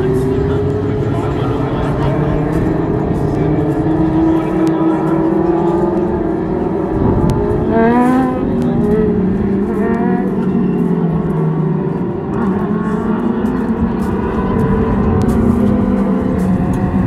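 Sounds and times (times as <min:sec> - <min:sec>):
racing engines droning: 0:00.0 - 0:17.0.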